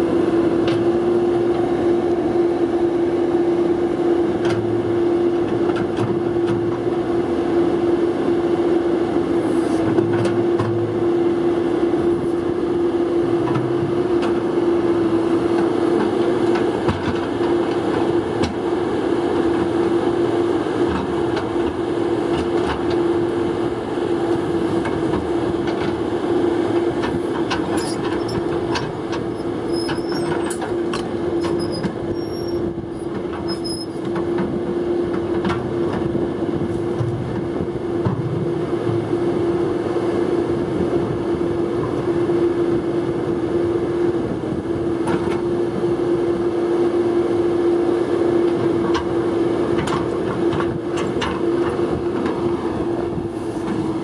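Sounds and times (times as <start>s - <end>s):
excavator diesel engine whine: 0.0s - 54.0s.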